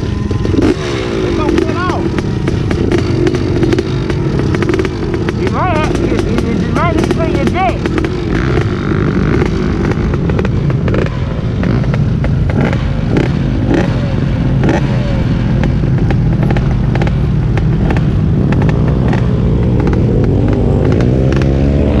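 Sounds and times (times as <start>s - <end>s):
off-road vehicle engine running: 0.0s - 22.0s
sharp clicks and pops: 0.3s - 14.0s, 15.5s - 21.6s.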